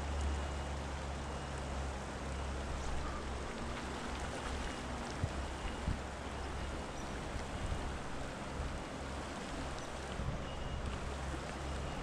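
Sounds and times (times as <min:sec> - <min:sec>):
river water over cobbles: 0:00.0 - 0:12.0.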